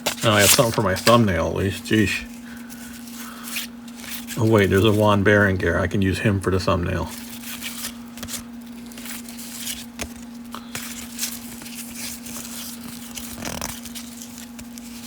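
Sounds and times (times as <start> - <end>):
foil wrappers rustling and crinkling: 0.0 - 15.0
steady low hum: 0.0 - 15.0.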